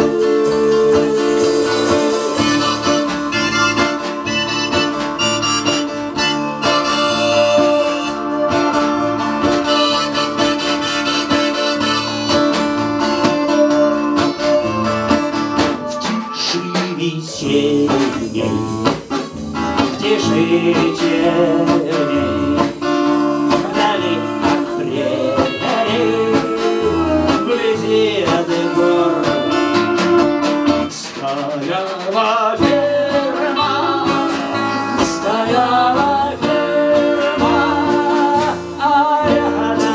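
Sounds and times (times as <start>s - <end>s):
harmonica chords: 0.0s - 31.0s, 32.7s - 39.9s
bass: 0.0s - 31.7s, 32.4s - 39.9s
strummed acoustic guitar: 0.0s - 39.9s.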